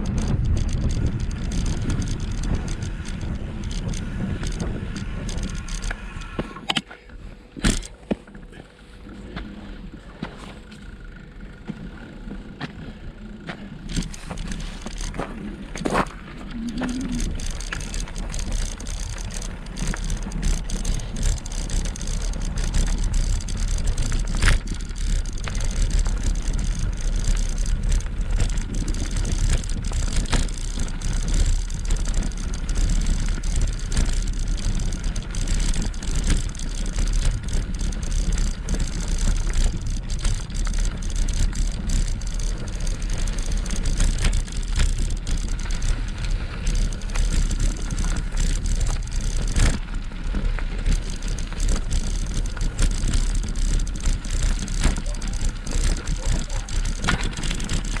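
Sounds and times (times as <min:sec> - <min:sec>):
small rattles and knocks: 0:00.0 - 0:06.9, 0:09.2 - 0:58.0
tyre rumble on road: 0:00.0 - 0:58.0.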